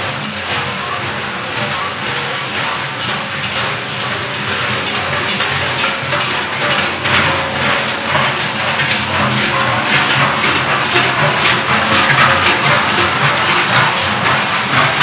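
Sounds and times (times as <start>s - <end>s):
cowbells clanging: 0.2s - 15.0s.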